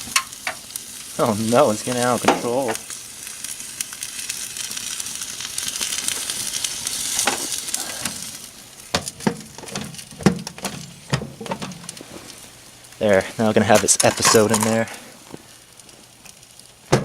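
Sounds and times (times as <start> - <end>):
fire hissing and crackling: 0.0 - 17.0.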